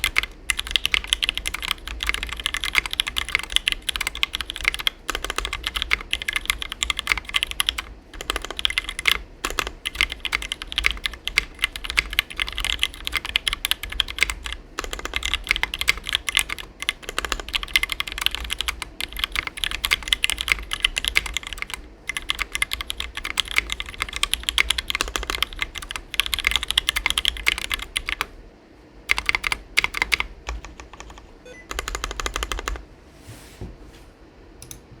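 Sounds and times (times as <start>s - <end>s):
mechanical keyboard typing: 0.0s - 28.3s, 29.1s - 32.8s.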